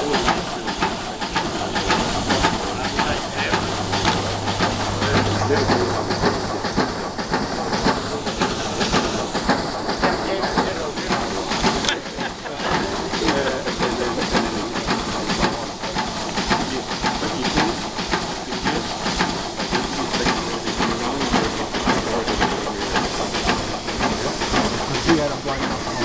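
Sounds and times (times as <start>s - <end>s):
steam engine beat: 0.0s - 26.0s
steam hissing: 0.0s - 26.0s.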